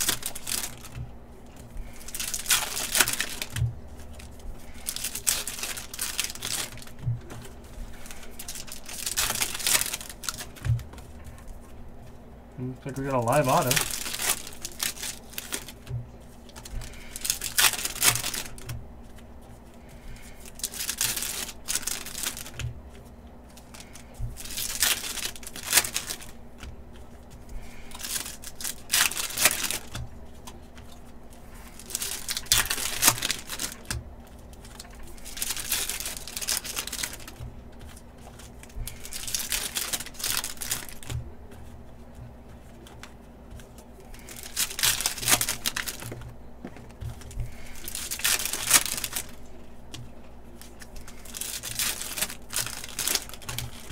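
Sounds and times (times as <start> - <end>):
foil wrappers crinkling and tearing: 0.0 - 53.9.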